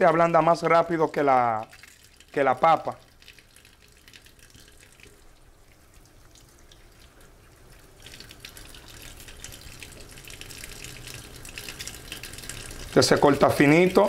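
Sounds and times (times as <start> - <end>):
water splashing into sink: 0.0 - 14.0.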